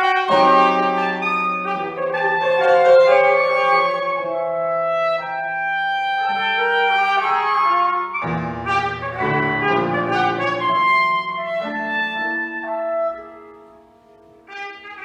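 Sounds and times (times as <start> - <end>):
clarinet held notes: 0.0 - 13.6
trumpet held notes: 0.0 - 13.6, 14.4 - 15.0.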